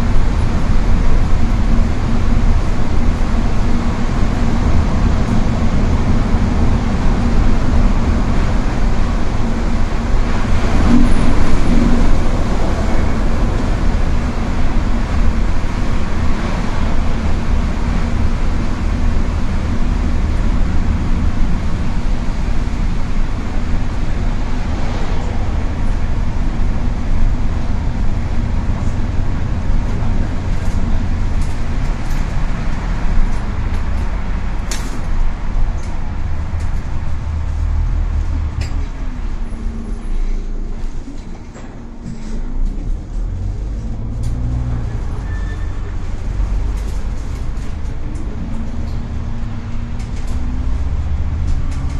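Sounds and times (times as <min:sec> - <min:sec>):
vehicle engine and tyre rumble: 0:00.0 - 0:51.9.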